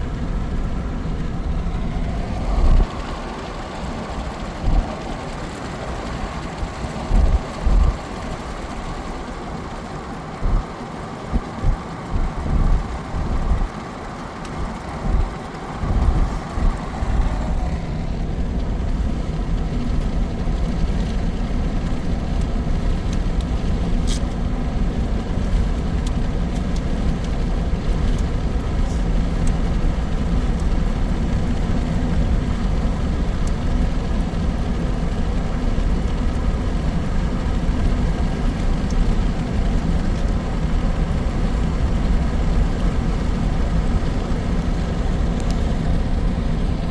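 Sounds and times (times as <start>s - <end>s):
engine and tyre drone in cabin: 0.0s - 46.9s.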